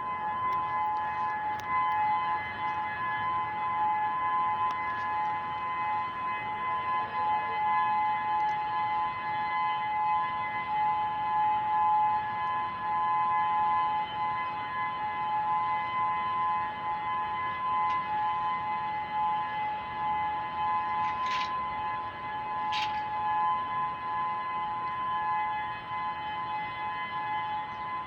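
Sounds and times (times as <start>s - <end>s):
two-note warning siren: 0.0s - 28.0s.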